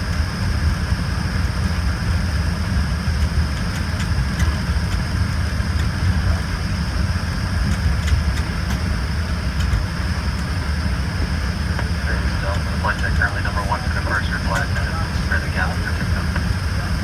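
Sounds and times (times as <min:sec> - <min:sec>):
high engine whine: 0:00.0 - 0:17.0
jet cabin low rumble: 0:00.0 - 0:17.0.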